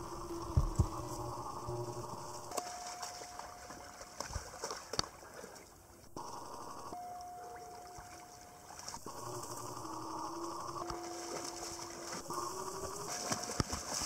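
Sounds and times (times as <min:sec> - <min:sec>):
faint thin steady tone: 0:00.0 - 0:04.3, 0:05.6 - 0:14.0
water sloshing and splashing: 0:00.0 - 0:09.3, 0:10.8 - 0:14.0.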